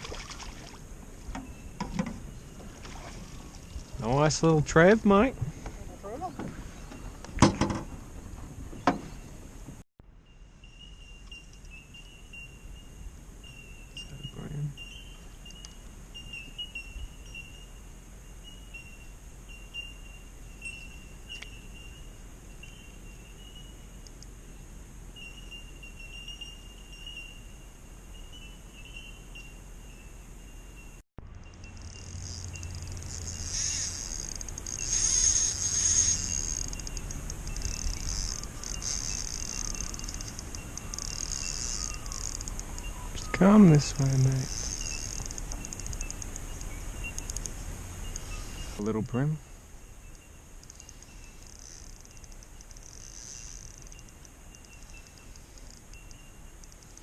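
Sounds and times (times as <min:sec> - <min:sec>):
insect chorus droning: 0:00.0 - 0:09.2, 0:10.2 - 0:57.0.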